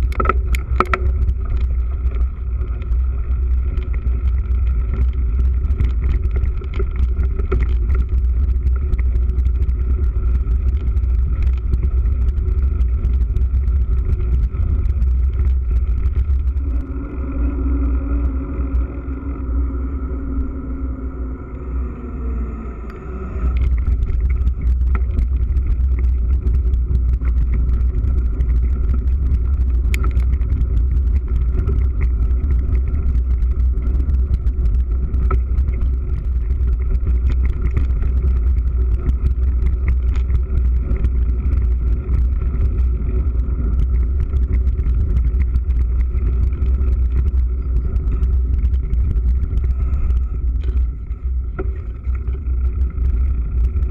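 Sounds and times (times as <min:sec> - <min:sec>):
tyres clicking over dirt track: 0:00.0 - 0:19.4, 0:23.4 - 0:53.9
bike tyre noise: 0:00.0 - 0:53.9
wind and vibration rumble: 0:00.0 - 0:53.9.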